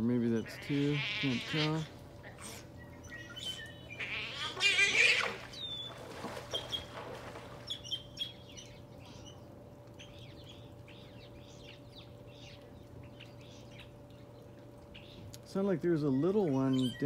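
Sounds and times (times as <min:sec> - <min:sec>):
otters chirping and squeaking: 0:00.1 - 0:07.0, 0:07.6 - 0:09.4, 0:10.0 - 0:17.0.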